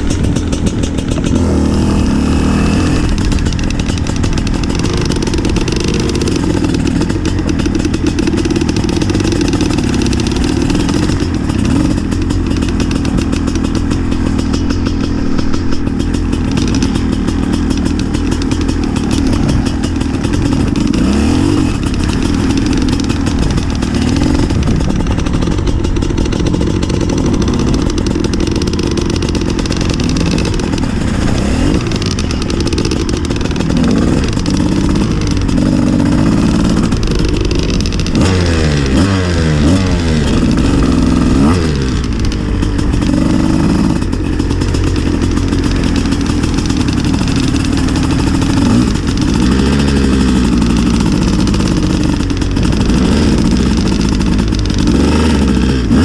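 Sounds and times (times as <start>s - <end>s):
two-stroke motorcycle revving: 0.0s - 56.0s.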